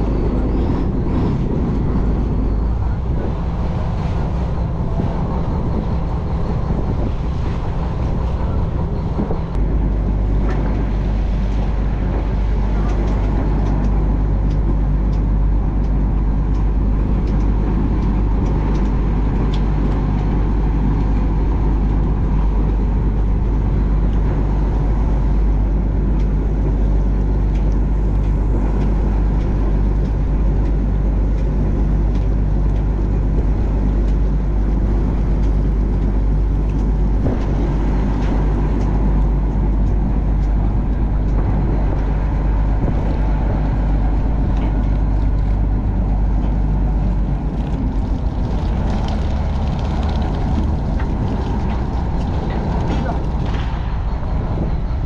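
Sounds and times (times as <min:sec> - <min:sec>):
boat engine running steadily: 0:00.0 - 0:55.0.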